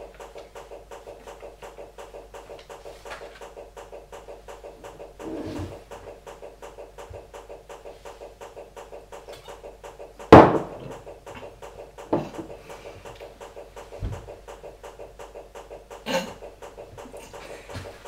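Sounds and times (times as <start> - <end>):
fast even ticking: 0.0 - 18.0
steady low hum: 0.0 - 18.0.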